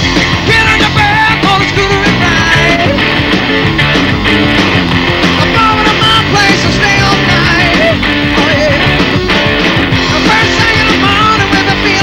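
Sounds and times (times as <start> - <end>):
bass guitar: 0.0 - 12.0
drum kit: 0.0 - 12.0
electric guitar: 0.0 - 12.0.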